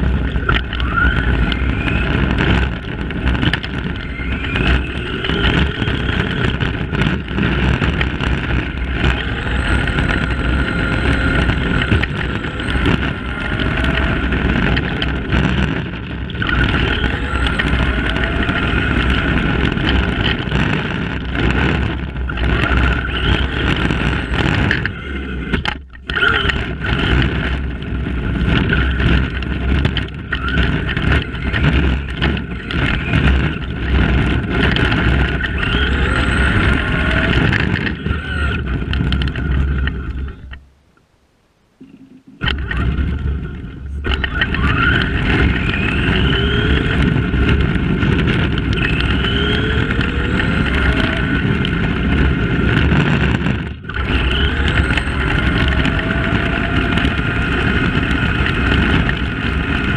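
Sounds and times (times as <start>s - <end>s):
electric motor whining: 0.0s - 40.6s, 42.2s - 59.9s
tyres rumbling on tarmac: 0.0s - 40.9s, 41.8s - 59.9s.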